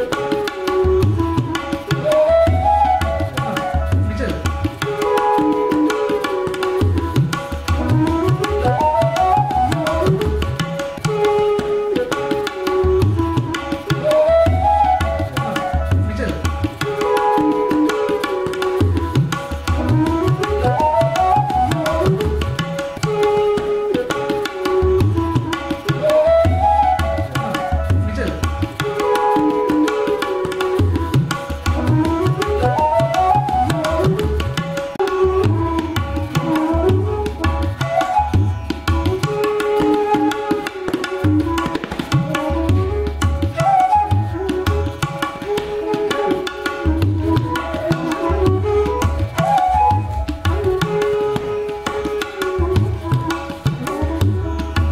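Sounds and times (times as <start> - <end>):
sliding melody: 0.0 - 54.9
tabla drums: 0.0 - 54.9.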